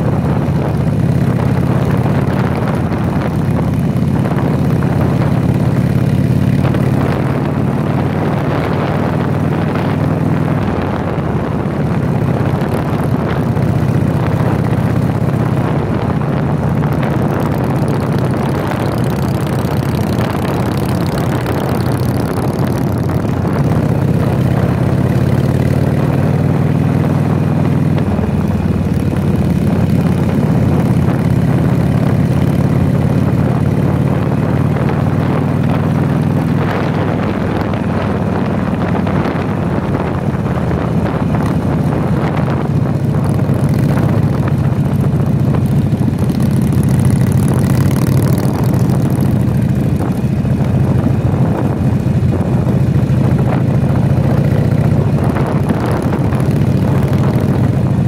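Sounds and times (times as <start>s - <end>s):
motorcycle engine cruising: 0.0s - 58.0s
wind buffeting microphone: 0.0s - 58.0s.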